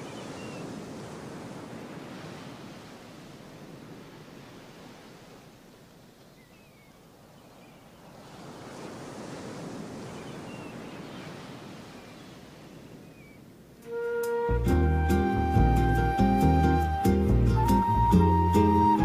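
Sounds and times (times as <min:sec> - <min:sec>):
ocean surf on sandy beach: 0:00.0 - 0:19.0.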